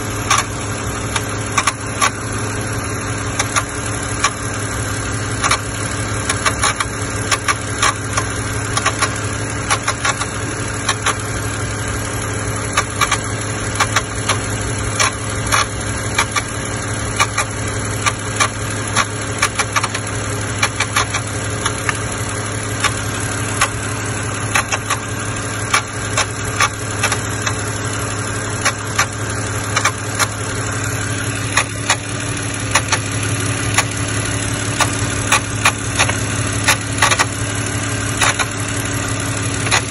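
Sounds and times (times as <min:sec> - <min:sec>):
car engine idling: 0:00.0 - 0:39.9
engine ticking and clicking: 0:00.0 - 0:39.9.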